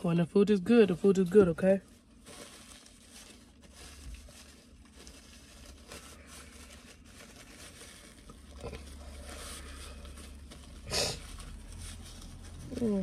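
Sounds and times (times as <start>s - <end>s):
paper napkin rustling: 0.7s - 13.0s.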